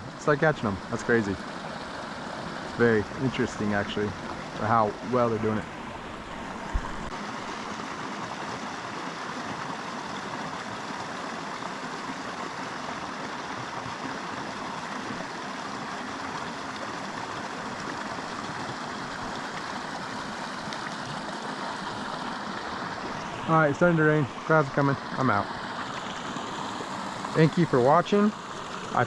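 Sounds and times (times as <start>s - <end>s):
creek flowing: 0.0s - 29.0s.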